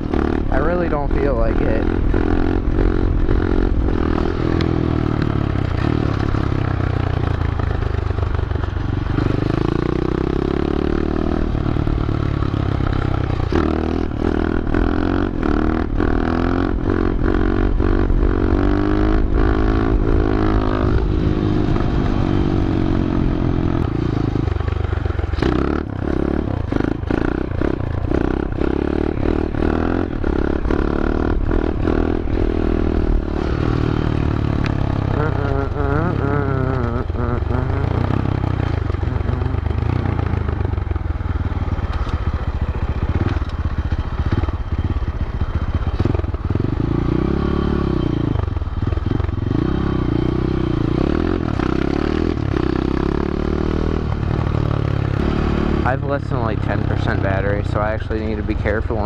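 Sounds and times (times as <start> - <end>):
small motorcycle engine revving: 0.0 - 59.0.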